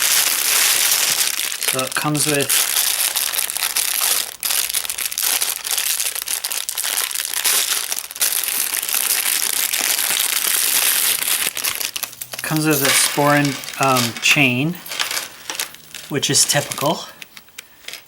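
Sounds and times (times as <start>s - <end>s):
packaging crinkling: 0.0s - 18.0s.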